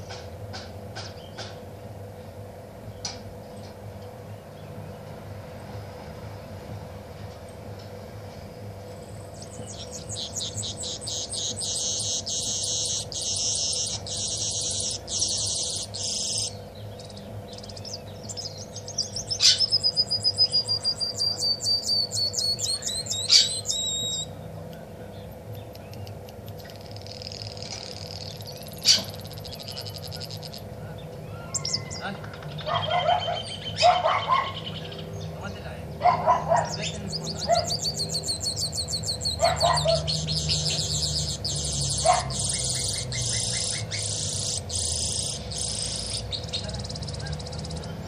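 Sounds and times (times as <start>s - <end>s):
songbird singing trills: 8.4s - 48.0s.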